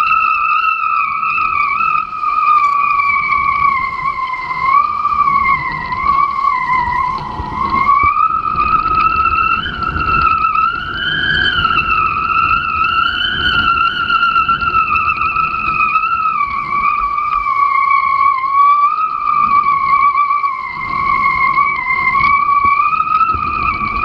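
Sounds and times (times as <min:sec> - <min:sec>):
hydrofoil whistling whine: 0:00.0 - 0:24.0
rushing wind and water: 0:00.0 - 0:24.0.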